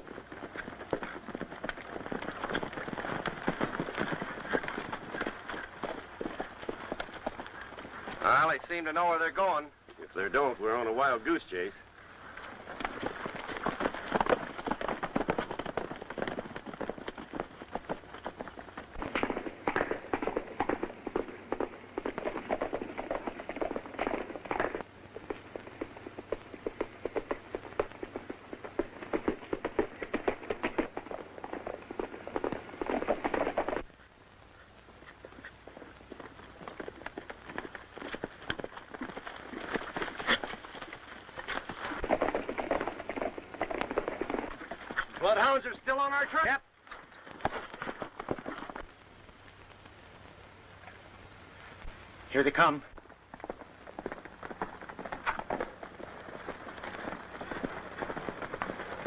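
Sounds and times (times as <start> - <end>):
horses galloping: 0.0 - 59.0.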